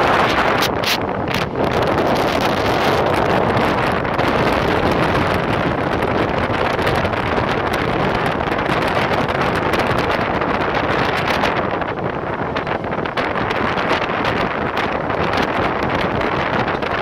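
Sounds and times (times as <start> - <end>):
train running noise: 0.0 - 17.0
wind buffeting microphone: 0.0 - 17.0.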